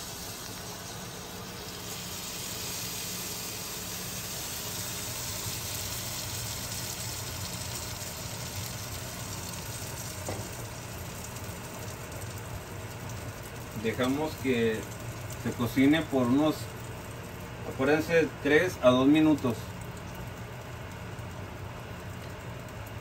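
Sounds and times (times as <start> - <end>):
batter sizzling in frying pan: 0.0 - 23.0.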